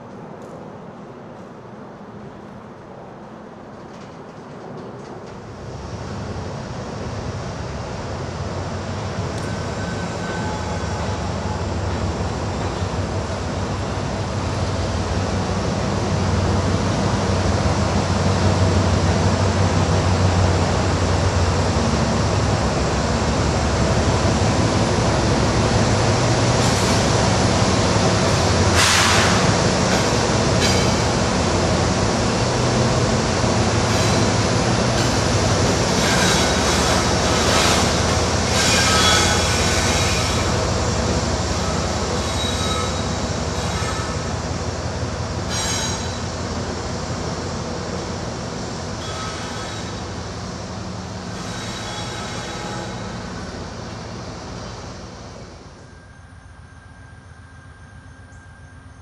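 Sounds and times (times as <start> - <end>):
diesel locomotive engines droning: 0.0 - 59.0
rail noise: 0.0 - 59.0.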